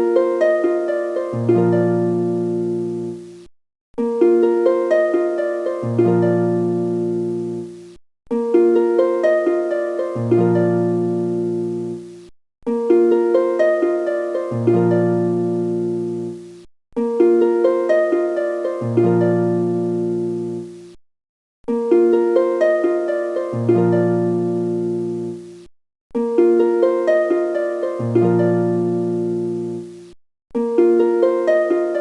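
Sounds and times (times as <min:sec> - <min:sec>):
plucked harp-like melody: 0:00.0 - 0:21.0, 0:21.6 - 0:32.0.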